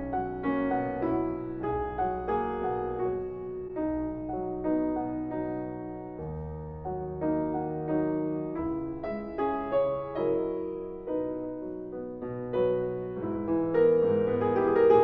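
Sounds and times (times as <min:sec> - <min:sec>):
piano piece: 0:00.0 - 0:15.0.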